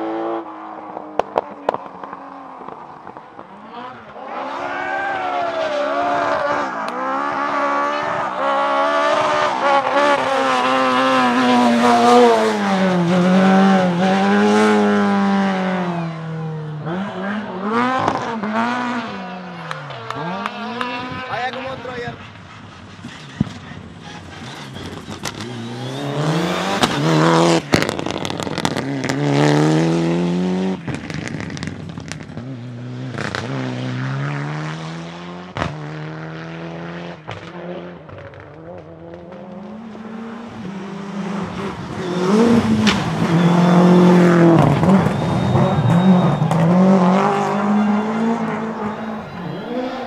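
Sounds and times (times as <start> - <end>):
rally car engines revving: 0.0 - 50.0
exhaust bangs: 0.9 - 50.0.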